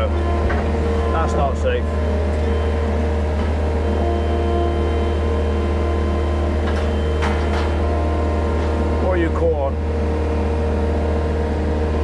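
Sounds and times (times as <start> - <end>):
loader engine droning: 0.0 - 12.0.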